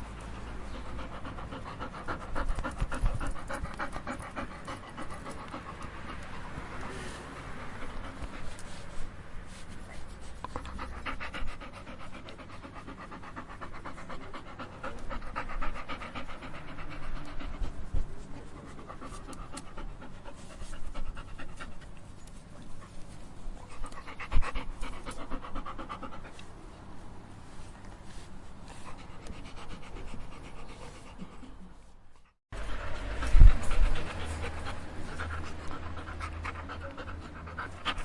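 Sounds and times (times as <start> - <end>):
dog panting: 0.0 - 26.9, 27.7 - 38.0.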